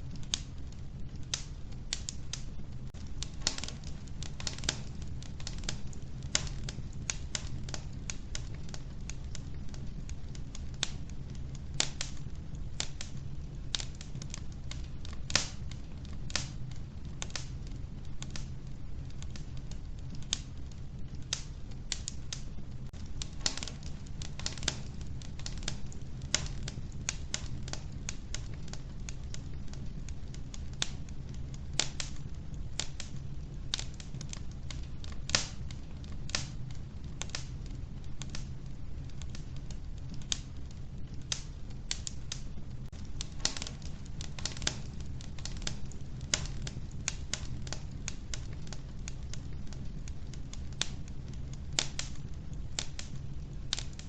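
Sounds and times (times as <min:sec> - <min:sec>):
wood fire crackling in a stove: 0:00.0 - 0:54.0.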